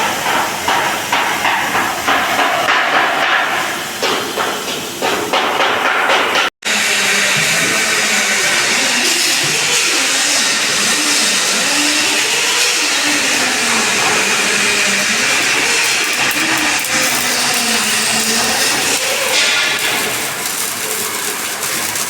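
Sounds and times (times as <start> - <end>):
welding arc hissing and crackling: 0.0 - 22.0.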